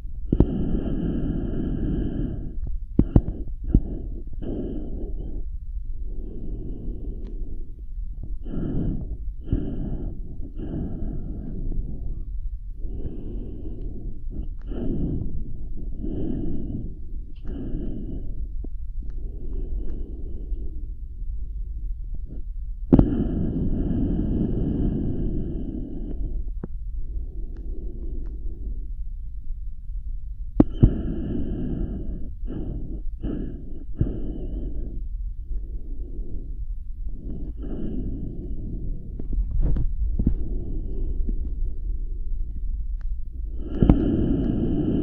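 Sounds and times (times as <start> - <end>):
person breathing heavily: 0.0 - 21.2, 22.2 - 29.2, 30.6 - 45.0
low steady hum: 0.0 - 45.0.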